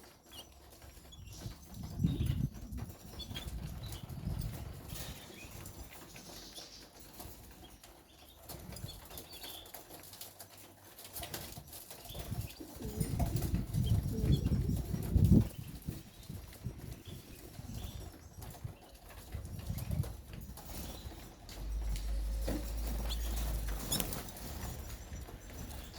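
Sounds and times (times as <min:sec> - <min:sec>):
birds fluttering wings in cage: 0:00.0 - 0:25.9.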